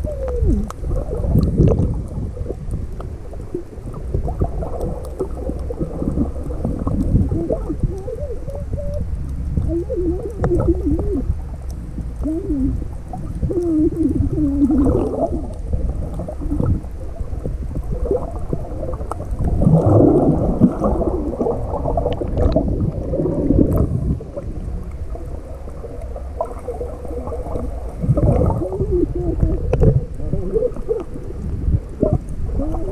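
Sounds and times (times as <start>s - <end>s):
low rumble: 0.0s - 32.9s
underwater water gurgling: 0.0s - 32.9s.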